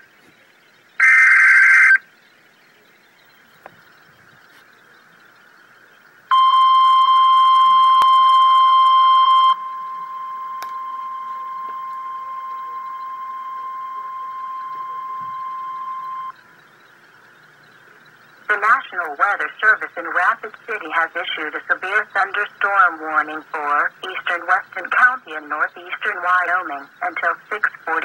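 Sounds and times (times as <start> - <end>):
faint background hiss: 0.0 - 28.0
steady high warning beep: 1.0 - 2.1, 3.2 - 28.0.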